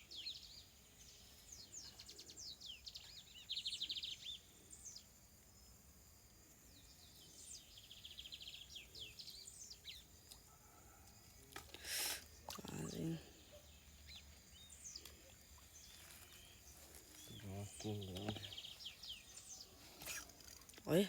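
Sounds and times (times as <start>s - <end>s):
birds chirping: 0.0s - 5.1s, 6.6s - 21.0s
faint outdoor background hiss: 0.0s - 21.0s.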